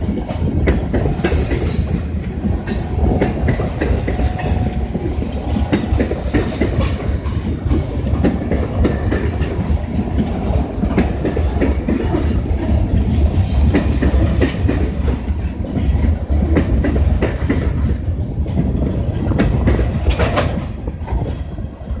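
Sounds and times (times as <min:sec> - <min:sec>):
wheels clacking over rail joints: 0:00.0 - 0:21.5
train cars rumbling past: 0:00.0 - 0:22.0.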